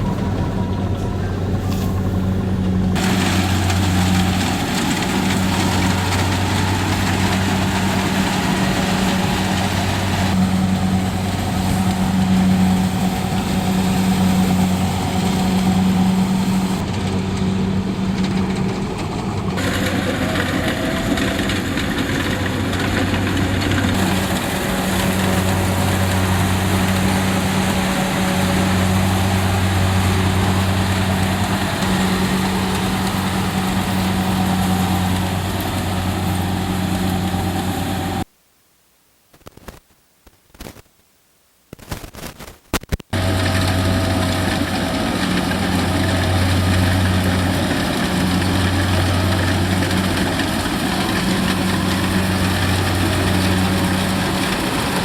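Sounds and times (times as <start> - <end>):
combine harvester engine running: 0.0 - 38.3, 43.1 - 55.0.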